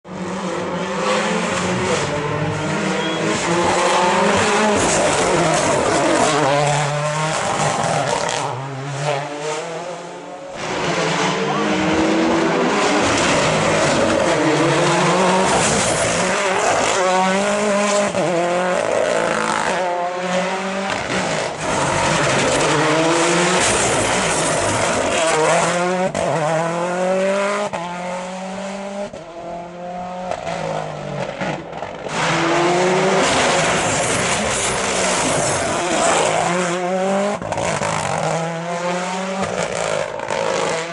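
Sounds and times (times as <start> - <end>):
rally car engine at full throttle: 0.0 - 40.9.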